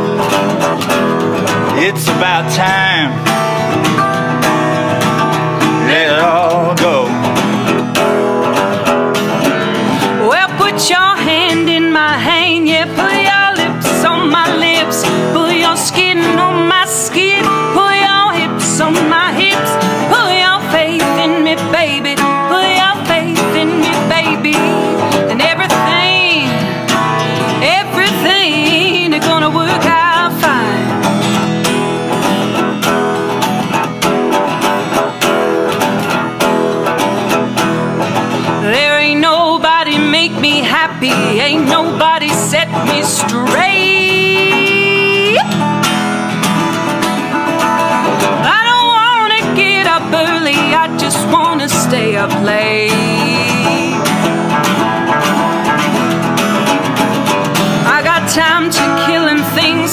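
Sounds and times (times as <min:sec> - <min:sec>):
acoustic guitars playing folk: 0:00.0 - 0:59.9.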